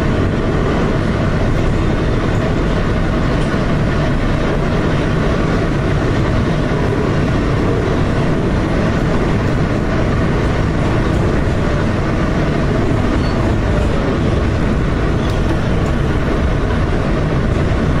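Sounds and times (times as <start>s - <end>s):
subway car wheels rumbling: 0.0s - 18.0s.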